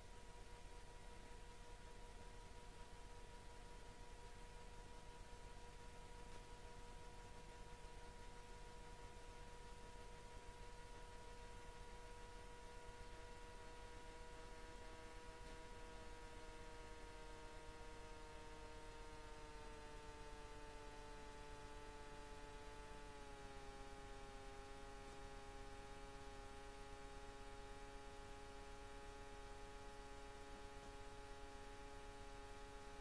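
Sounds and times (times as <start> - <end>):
faint droning tone: 0.0 - 33.0.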